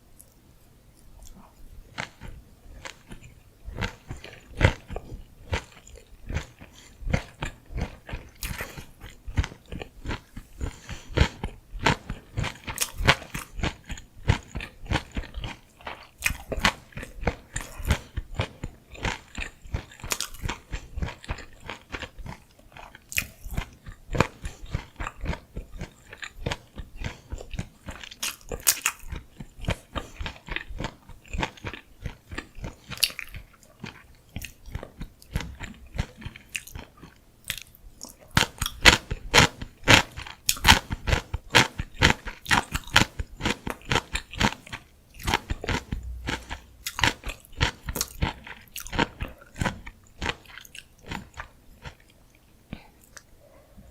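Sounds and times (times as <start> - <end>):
wet crunchy chewing: 1.0 - 52.2.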